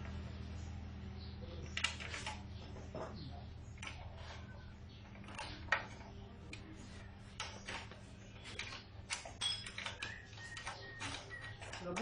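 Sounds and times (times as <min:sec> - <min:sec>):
faint steady hum: 0:00.0 - 0:12.0
metal tools clicking and tapping: 0:01.8 - 0:12.0.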